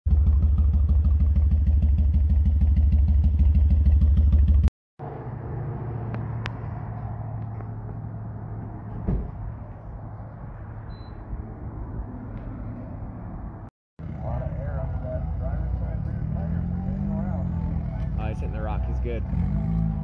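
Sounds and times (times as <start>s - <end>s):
loud lumpy engine: 0.1s - 10.5s, 14.0s - 20.0s
quieter engine running: 0.1s - 20.0s.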